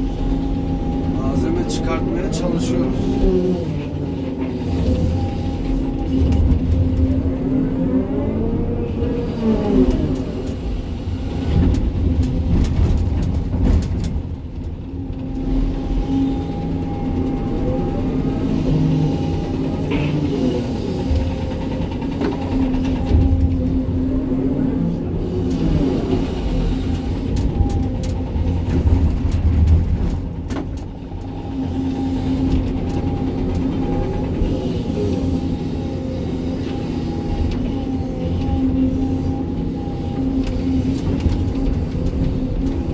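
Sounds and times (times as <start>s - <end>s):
excavator diesel engine: 0.0s - 42.9s.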